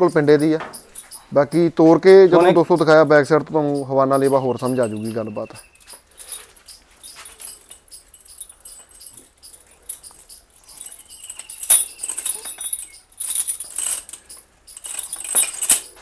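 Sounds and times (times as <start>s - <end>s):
metal chain rattling: 0.0s - 16.0s.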